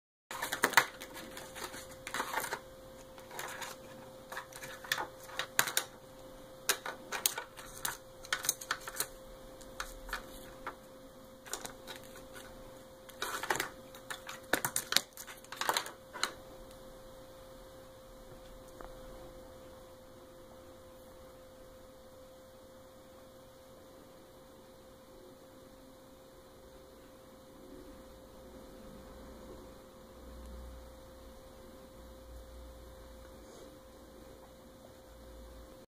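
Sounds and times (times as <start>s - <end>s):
faint electrical hum: 0.3s - 35.9s.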